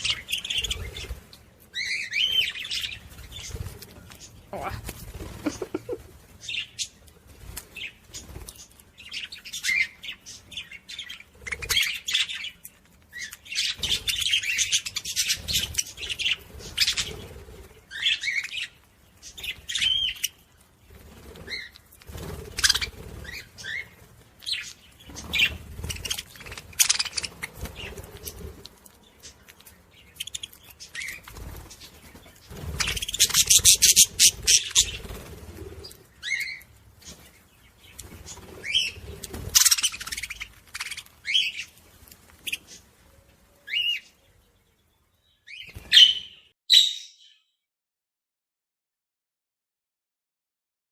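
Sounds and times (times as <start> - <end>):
budgerigars chirping and warbling: 0.0 - 7.1, 7.7 - 28.6, 29.2 - 43.0, 43.6 - 44.5, 45.4 - 47.4.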